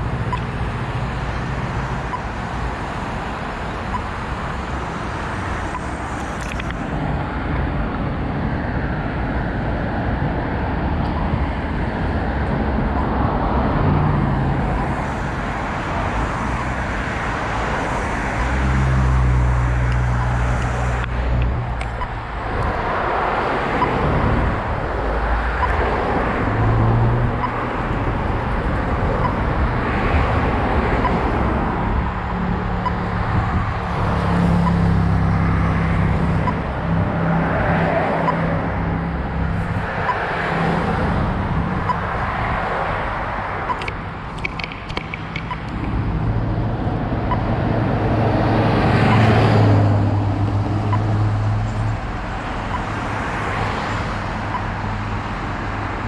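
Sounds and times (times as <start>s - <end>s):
heavy vehicles passing: 0.0s - 56.0s
passing vehicles engine and tyre hum: 0.0s - 56.0s.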